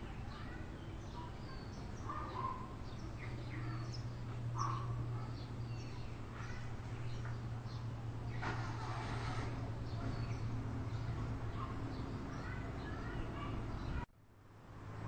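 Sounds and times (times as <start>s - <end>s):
birds chirping and calling: 0.0s - 14.1s
low steady hum: 0.0s - 15.0s.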